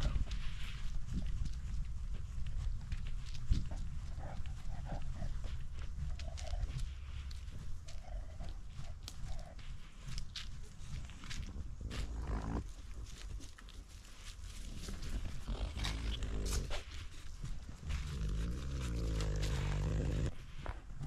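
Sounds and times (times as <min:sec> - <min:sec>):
dry leaves crackling underfoot: 0:00.0 - 0:20.6
dog breathing and snuffling: 0:00.0 - 0:21.0
low rumble of body movement: 0:00.0 - 0:21.0.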